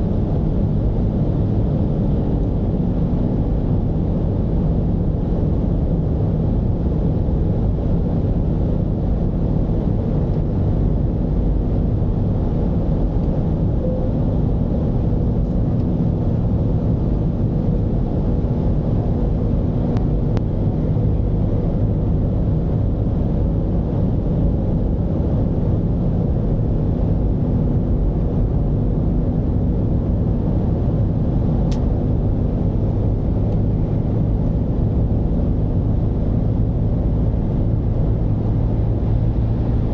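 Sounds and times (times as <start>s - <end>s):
diesel engine rumbling while driving: 0.0s - 39.9s
road noise: 0.0s - 39.9s.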